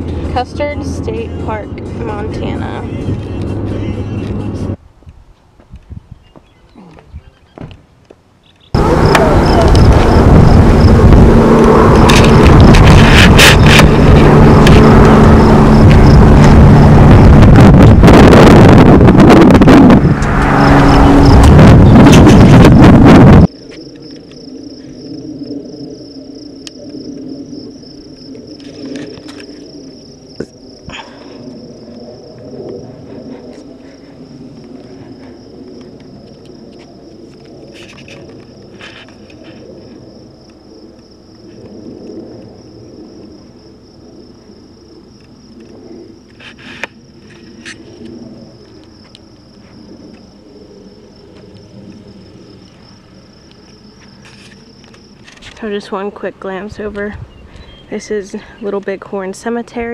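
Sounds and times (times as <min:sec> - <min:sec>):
insects droning: 0:06.1 - 0:59.9
low background rumble: 0:08.6 - 0:59.9.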